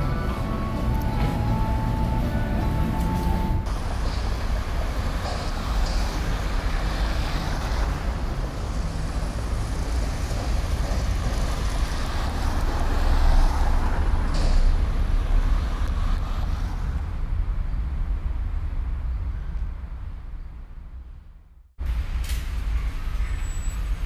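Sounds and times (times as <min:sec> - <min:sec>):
rumble of road traffic: 0:00.0 - 0:24.0.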